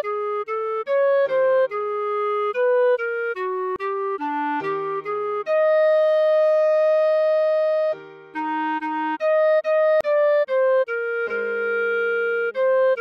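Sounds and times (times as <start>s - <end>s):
clarinet melody: 0.0s - 13.0s.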